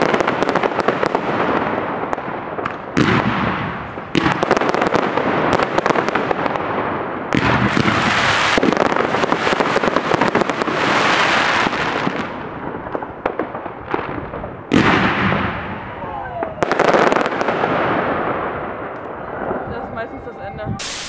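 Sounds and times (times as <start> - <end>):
fireworks crackling and popping: 0.0 - 19.7, 20.8 - 21.0.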